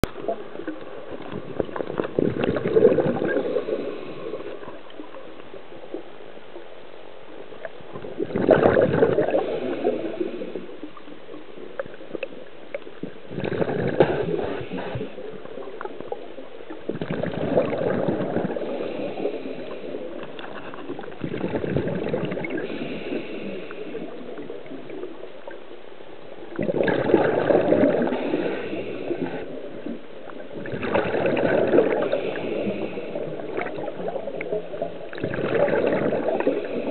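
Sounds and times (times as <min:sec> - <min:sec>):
water bubbling surge: 0:00.0 - 0:06.1, 0:07.4 - 0:25.7, 0:26.4 - 0:36.9
underwater murmur of water: 0:00.0 - 0:36.9.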